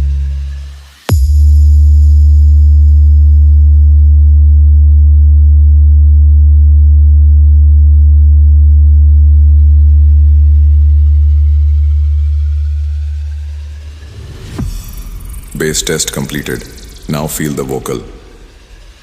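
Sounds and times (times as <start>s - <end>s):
deep bass test tone: 1.1s - 19.0s.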